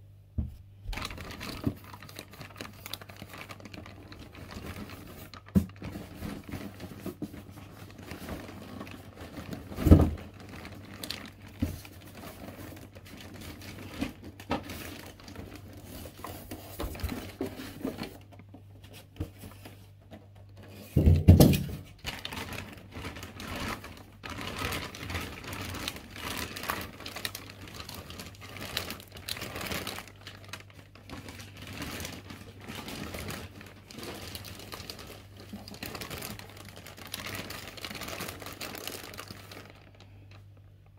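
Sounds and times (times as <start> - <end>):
plastic and paper crinkling: 0.9 - 40.9.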